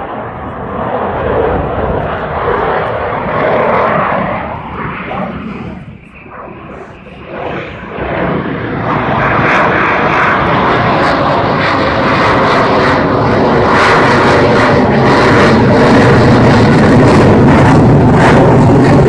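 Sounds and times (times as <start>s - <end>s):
fighter jet flying past: 0.0s - 19.0s.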